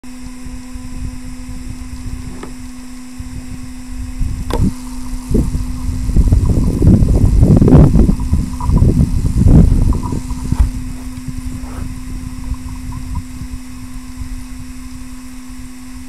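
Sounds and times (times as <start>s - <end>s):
steady low hum: 0.0s - 16.0s
wind buffeting microphone: 0.2s - 16.0s.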